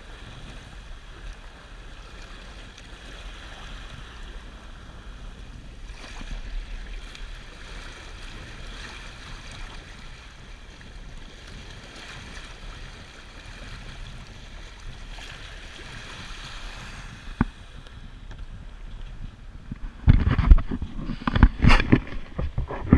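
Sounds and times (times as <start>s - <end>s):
water rushing along a hull: 0.0s - 22.9s
wind buffeting microphone: 0.0s - 22.9s.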